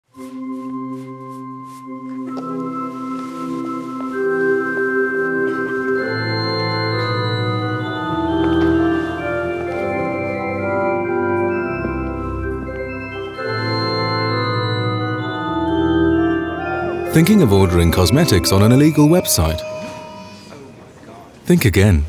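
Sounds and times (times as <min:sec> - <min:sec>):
organ playing sustained chords: 0:00.2 - 0:21.0.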